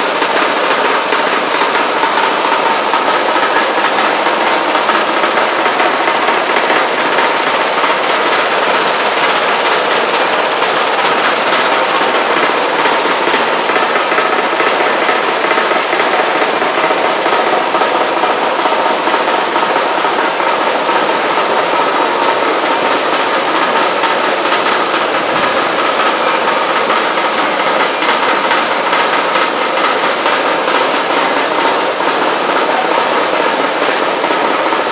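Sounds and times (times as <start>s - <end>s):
machinery din: 0.0s - 34.9s.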